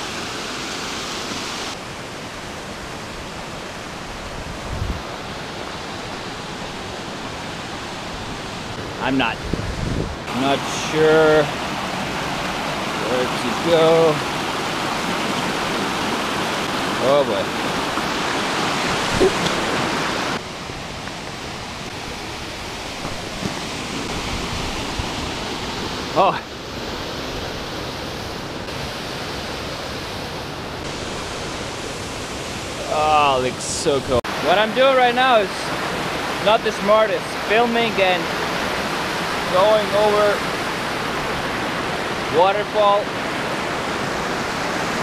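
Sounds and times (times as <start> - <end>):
small waterfalls: 0.0 - 45.0
stream rushing over boulders: 0.0 - 45.0.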